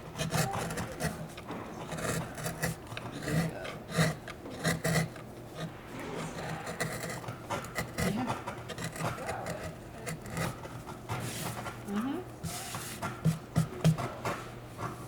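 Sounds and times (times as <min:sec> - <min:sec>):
carving tool scraping wood: 0:00.0 - 0:15.0.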